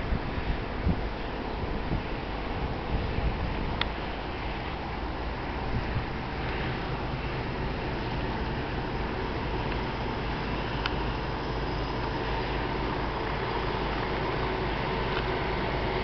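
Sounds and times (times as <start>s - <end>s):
barge engine drone: 0.0s - 16.0s.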